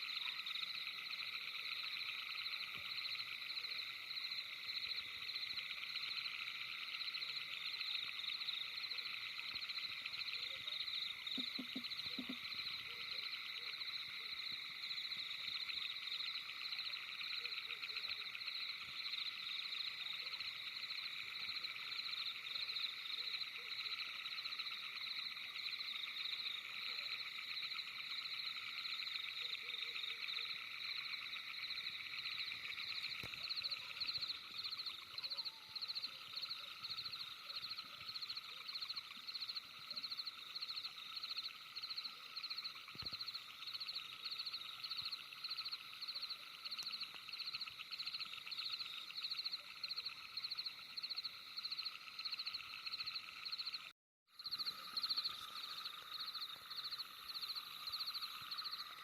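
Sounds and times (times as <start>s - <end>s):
night animals trilling: 0.0s - 51.7s.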